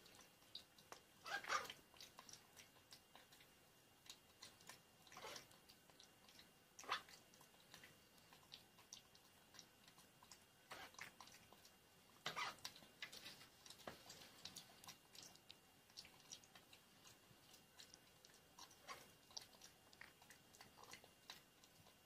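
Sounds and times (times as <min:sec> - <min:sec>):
monkey eating with wet smacks: 0:00.0 - 0:22.0.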